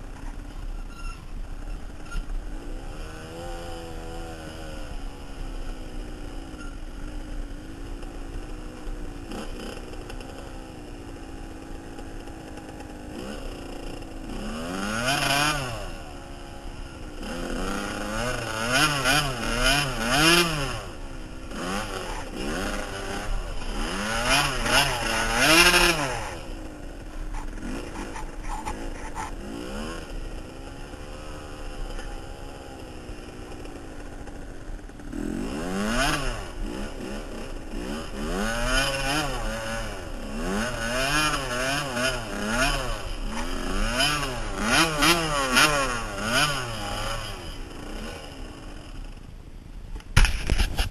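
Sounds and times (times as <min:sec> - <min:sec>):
dirt bike engine revving: 0:00.0 - 0:49.2.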